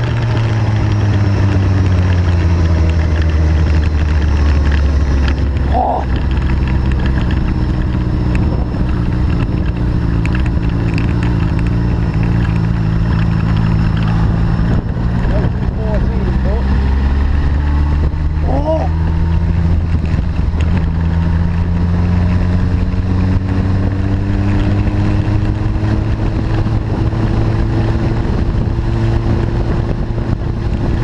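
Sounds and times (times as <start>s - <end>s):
motorcycle engine running hard: 0.0s - 31.0s.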